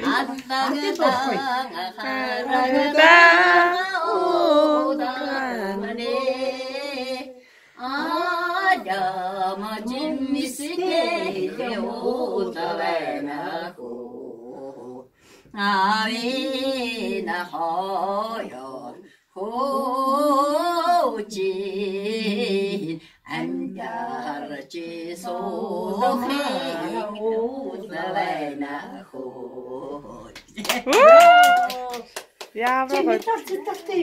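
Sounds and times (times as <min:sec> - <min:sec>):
woman singing unaccompanied: 0:00.0 - 0:13.8, 0:15.6 - 0:30.2.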